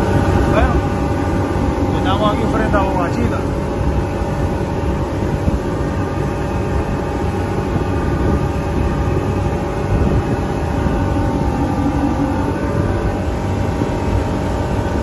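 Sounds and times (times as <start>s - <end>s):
outboard engines running: 0.0s - 15.0s.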